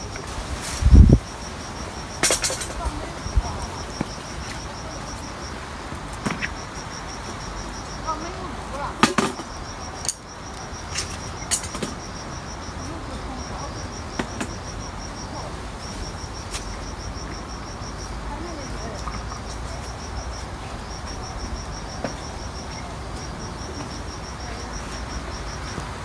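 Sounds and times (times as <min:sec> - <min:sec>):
insect chirping: 0:00.0 - 0:26.0.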